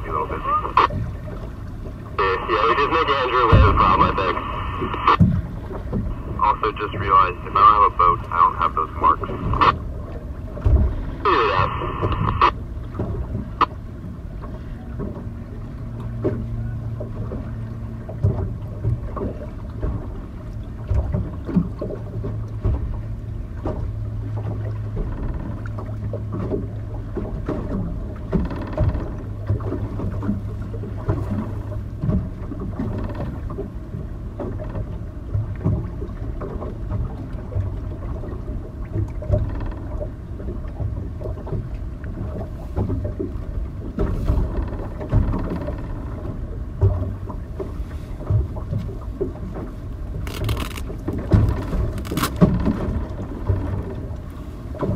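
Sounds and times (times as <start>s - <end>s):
motorboat engine idling: 0.0s - 54.9s
water slapping against hull: 0.0s - 54.9s.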